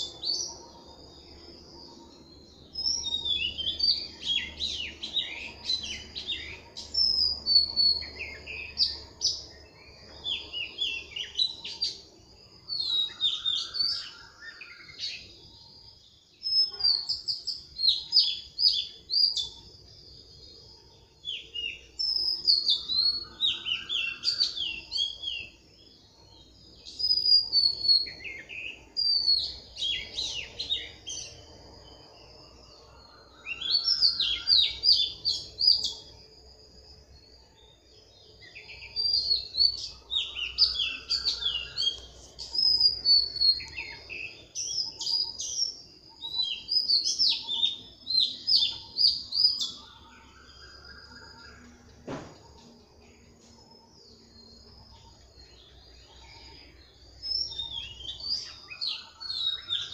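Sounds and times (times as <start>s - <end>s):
low rising bird trill: 0.0s - 59.9s.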